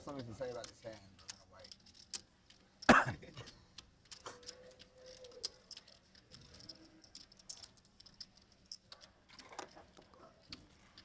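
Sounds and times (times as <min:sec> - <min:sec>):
poker chips clicking: 0:00.0 - 0:11.0.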